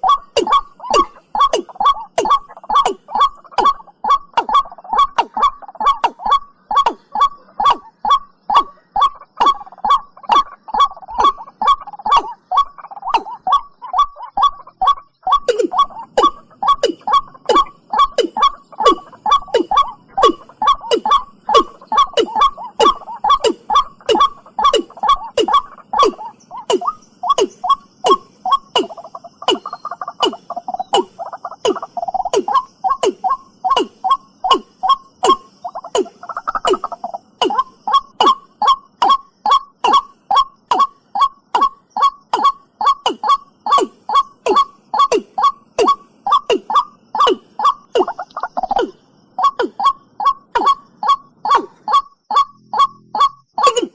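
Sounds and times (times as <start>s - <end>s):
bird calling hollow notes: 0.0s - 53.9s
bubbling bird call: 0.0s - 53.9s.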